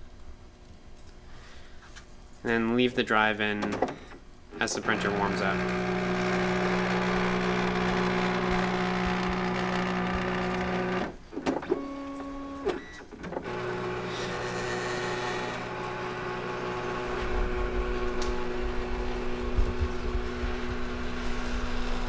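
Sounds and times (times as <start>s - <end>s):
printer mechanical hum: 3.4s - 22.0s.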